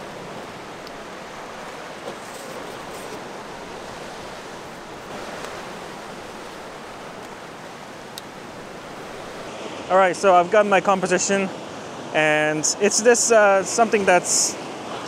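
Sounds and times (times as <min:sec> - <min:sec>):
surf washing among rocks: 0:00.0 - 0:15.0.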